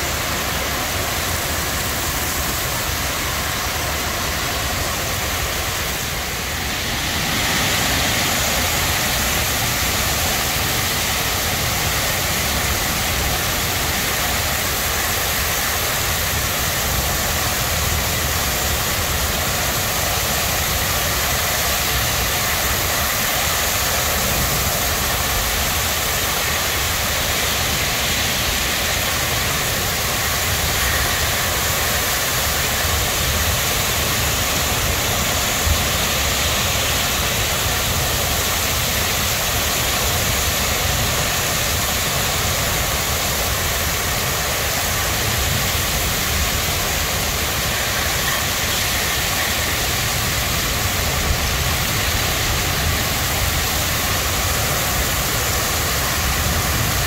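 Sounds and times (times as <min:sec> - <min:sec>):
torrential rain pouring: 0:00.0 - 0:57.0.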